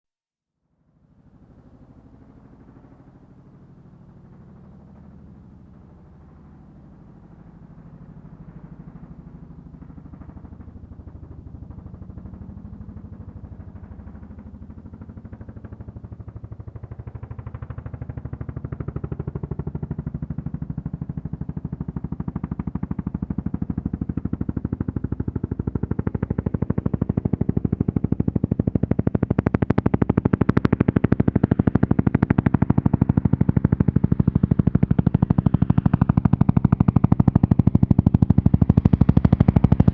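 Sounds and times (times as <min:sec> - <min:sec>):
helicopter rotor beating: 0:01.2 - 0:39.9.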